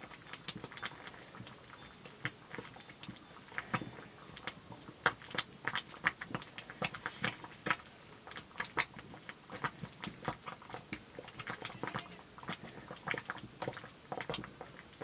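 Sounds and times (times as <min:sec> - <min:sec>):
stick stirring porridge in pot: 0:00.0 - 0:15.0.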